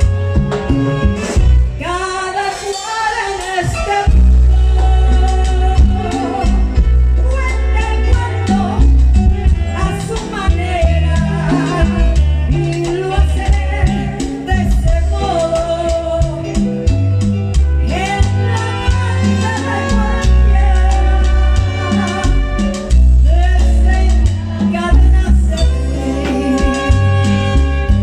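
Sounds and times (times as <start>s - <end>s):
bass line: 0.0s - 2.3s, 3.4s - 28.0s
busy percussion: 0.0s - 28.0s
live salsa band playing: 0.0s - 28.0s
woman singing: 1.6s - 17.0s, 17.6s - 28.0s.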